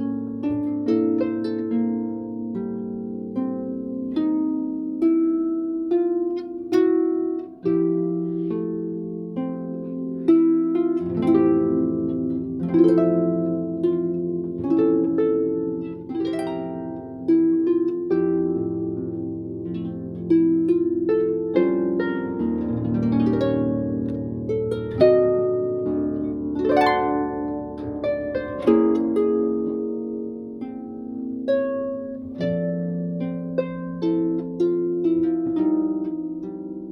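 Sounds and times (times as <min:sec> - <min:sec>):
solo harp music: 0:00.0 - 0:36.9.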